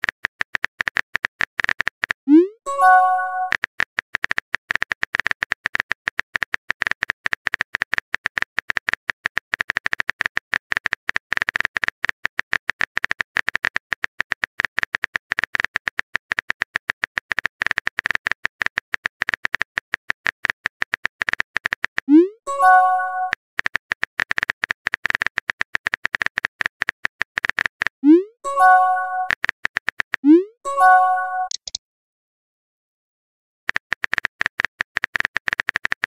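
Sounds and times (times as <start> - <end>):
rapid keyboard clicking: 0.0 - 2.2, 3.4 - 22.1, 23.2 - 28.0, 28.7 - 30.2, 31.4 - 31.8, 33.7 - 36.0.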